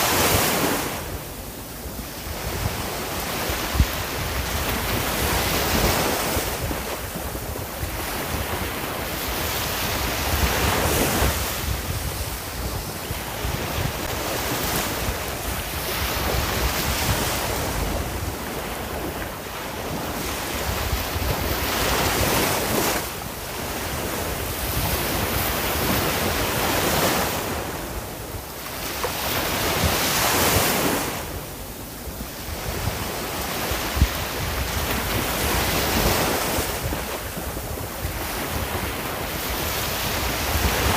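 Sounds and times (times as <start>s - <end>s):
sea waves breaking on shore: 0.0s - 40.9s
wind rumble on microphone: 0.0s - 40.9s.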